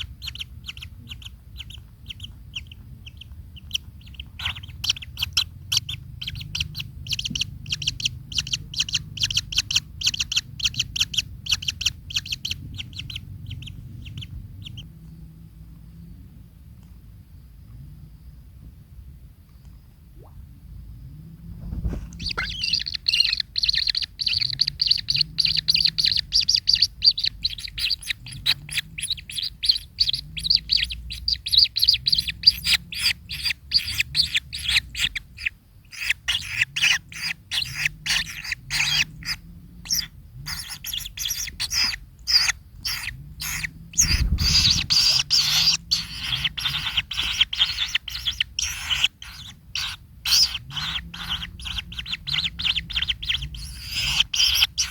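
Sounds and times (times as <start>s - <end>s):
kingfisher chirping: 0.0s - 14.9s, 21.9s - 54.9s.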